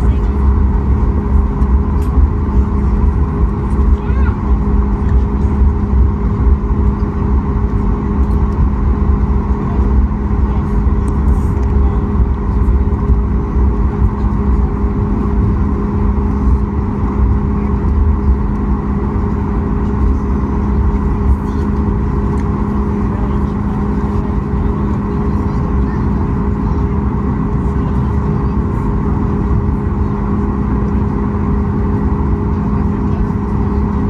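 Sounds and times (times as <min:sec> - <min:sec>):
jet engines humming while taxiing: 0:00.0 - 0:34.0.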